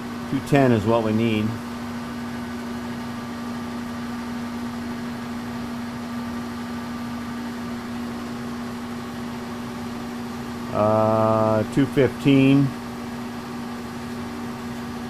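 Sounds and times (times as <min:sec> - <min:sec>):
machine hum with pitched drone: 0:00.0 - 0:15.0.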